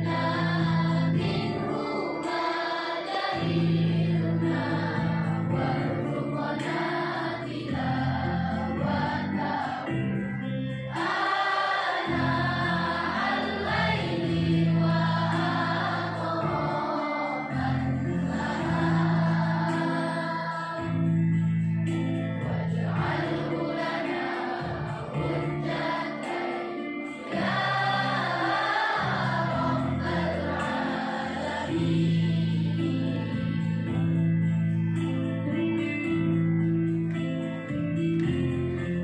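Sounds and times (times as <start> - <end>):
girls choir singing: 0.0 - 34.2
instrumental accompaniment chords: 0.0 - 39.0.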